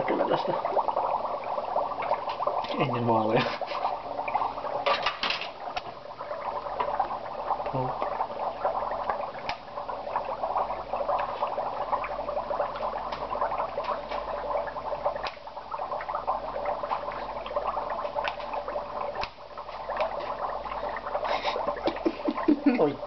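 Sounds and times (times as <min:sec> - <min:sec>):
dry ice bubbling in water: 0:00.0 - 0:23.0.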